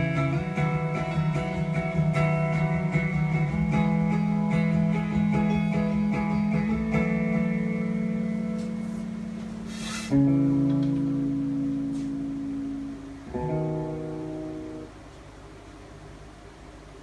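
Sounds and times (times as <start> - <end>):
plucked guitar chords: 0.0 - 15.6.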